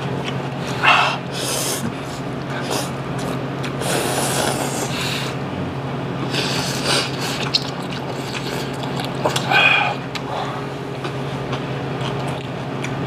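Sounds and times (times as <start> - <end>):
steady low hum: 0.0 - 13.0
eating noises: 0.1 - 5.6, 6.2 - 13.0.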